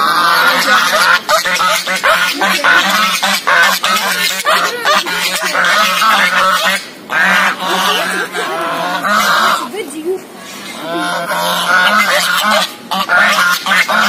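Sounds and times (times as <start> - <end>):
geese honking: 0.0 - 9.7, 10.4 - 14.0.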